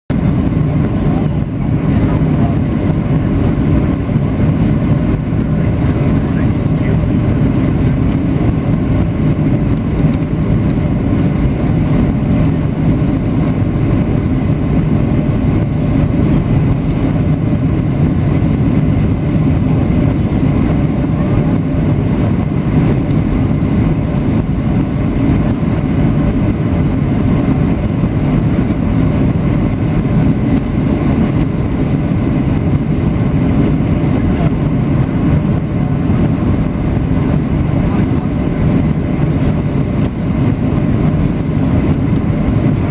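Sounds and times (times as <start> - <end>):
jet engine drone: 0.1 - 42.9.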